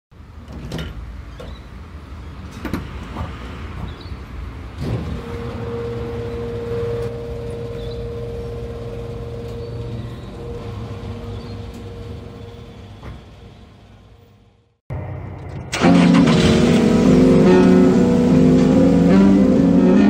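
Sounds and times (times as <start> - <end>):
vehicle engine rumbling: 0.2 - 20.0.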